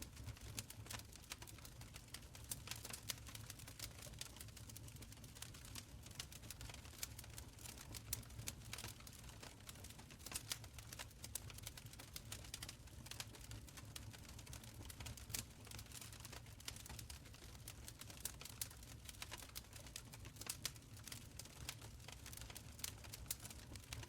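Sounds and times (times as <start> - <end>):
fire crackling and snapping: 0.0 - 24.0.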